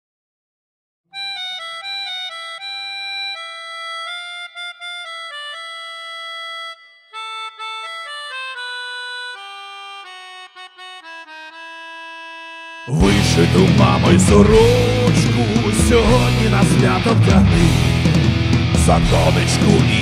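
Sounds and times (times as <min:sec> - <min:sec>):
melodica melody: 0:01.1 - 0:20.0.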